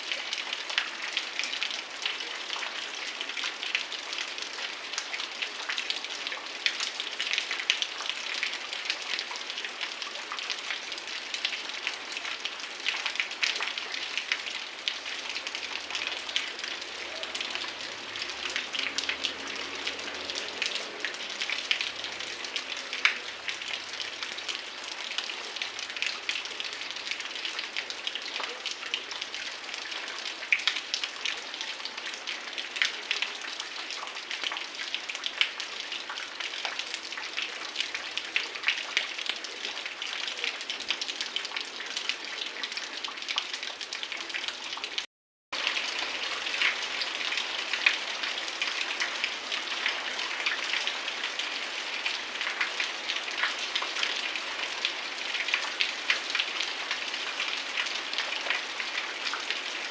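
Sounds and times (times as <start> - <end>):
raindrops tapping surfaces: 0.2 - 59.6.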